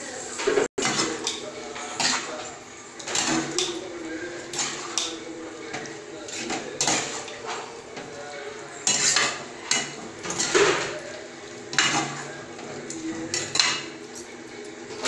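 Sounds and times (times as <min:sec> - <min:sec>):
metal spatula scraping a pan: 0:00.4 - 0:14.0.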